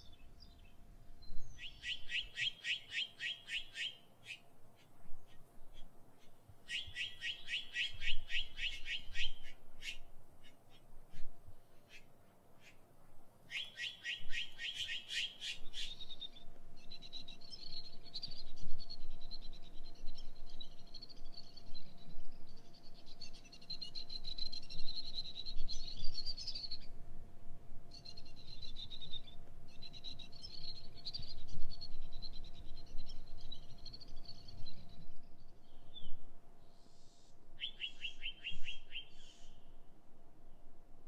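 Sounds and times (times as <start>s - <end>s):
songbirds chirping and trilling: 0.0s - 40.8s.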